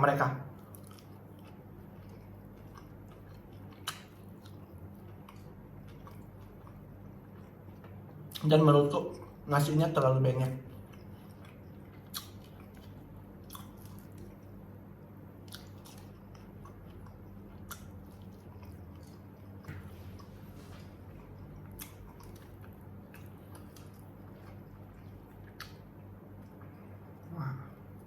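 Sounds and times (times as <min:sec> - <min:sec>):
chewing and biting food: 0:00.6 - 0:08.5, 0:10.6 - 0:27.1.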